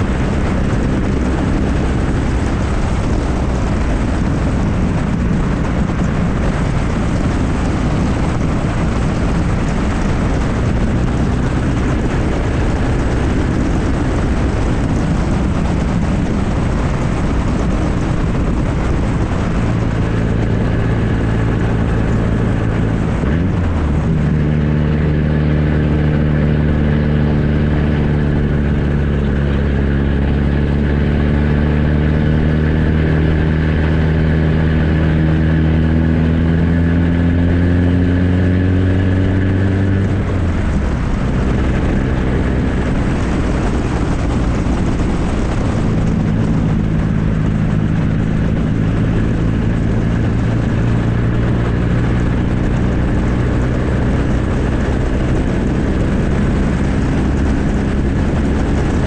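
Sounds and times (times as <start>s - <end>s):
car engine exhaust: 0.0s - 59.0s.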